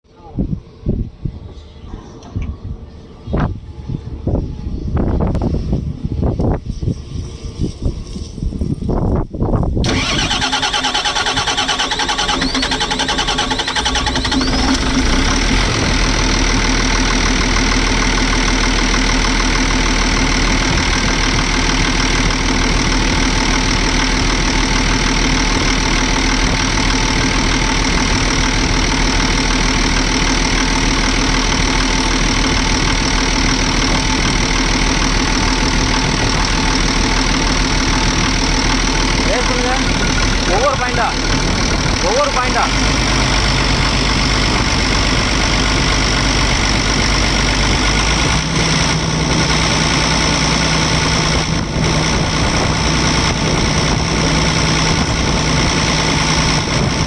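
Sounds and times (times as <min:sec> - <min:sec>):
excavator diesel engine: 0:09.8 - 0:57.0.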